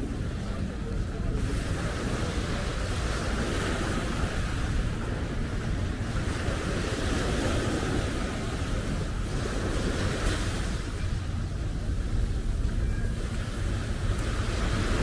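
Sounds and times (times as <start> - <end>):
waves washing onto a beach: 0.0 - 15.0
wind buffeting microphone: 0.0 - 15.0.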